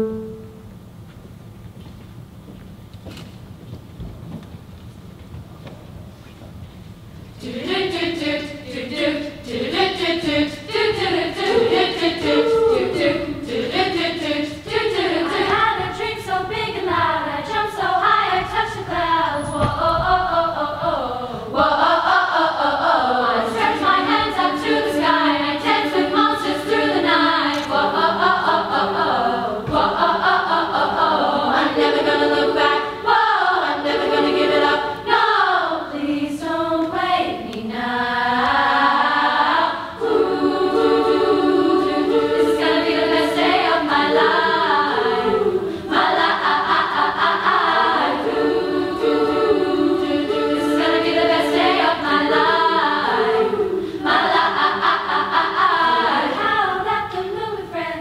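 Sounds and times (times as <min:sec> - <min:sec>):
women's choir singing: 0:07.4 - 0:58.0.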